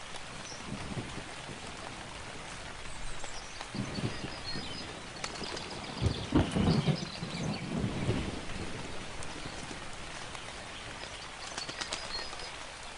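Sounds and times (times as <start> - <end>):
low thunder rumbles: 0.0 - 12.9
steady rain falling: 0.0 - 12.9.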